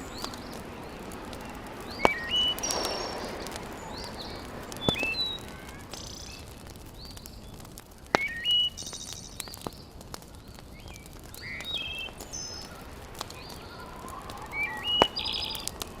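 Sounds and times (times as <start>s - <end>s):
background hiss: 0.0s - 16.0s
sharp pops: 0.0s - 16.0s
small birds chirping: 0.0s - 16.0s.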